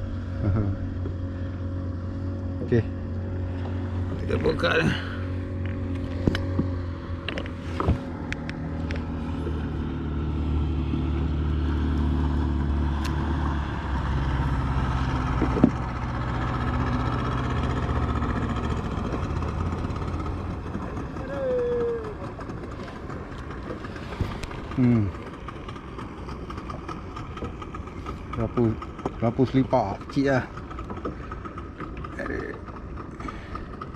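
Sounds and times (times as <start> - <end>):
boat engine running: 0.0 - 33.9.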